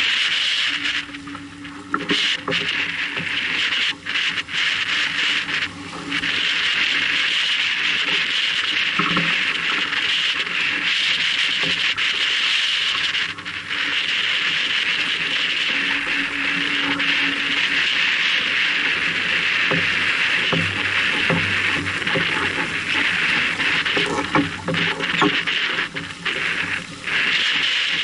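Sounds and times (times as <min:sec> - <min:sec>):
water rushing along hull: 0:00.0 - 0:28.0
wind on microphone: 0:00.0 - 0:28.0.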